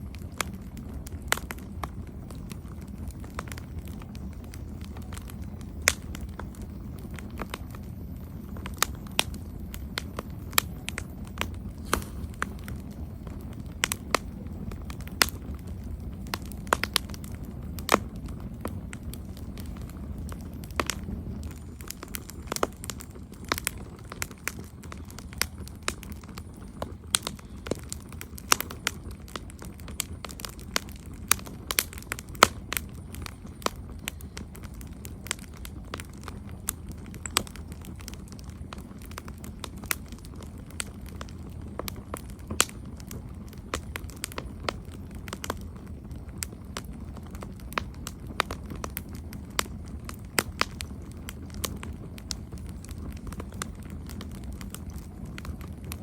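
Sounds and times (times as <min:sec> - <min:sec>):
burning wood popping and snapping: 0:00.0 - 0:56.0
low rumble of flames: 0:00.0 - 0:56.0.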